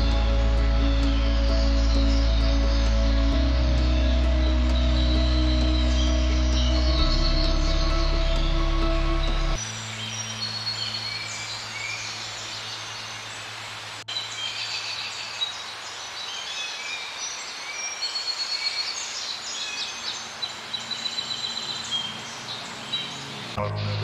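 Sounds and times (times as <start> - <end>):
small birds chirping and whistling: 0.0 - 13.2, 14.1 - 24.0.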